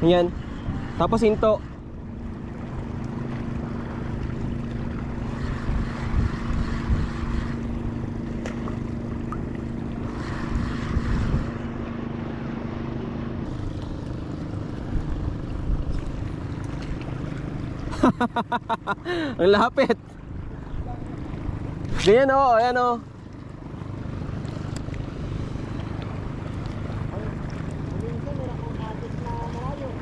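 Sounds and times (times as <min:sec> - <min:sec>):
boat diesel engine humming: 0:00.0 - 0:30.0
water noise: 0:00.0 - 0:30.0
wind: 0:00.0 - 0:30.0.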